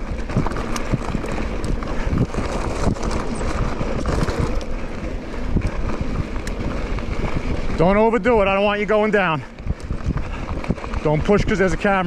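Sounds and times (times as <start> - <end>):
bike knocking and rattling: 0.0 - 12.0
bike tyres on dirt trail: 0.0 - 12.0
wind rumbling on microphone: 0.0 - 12.0.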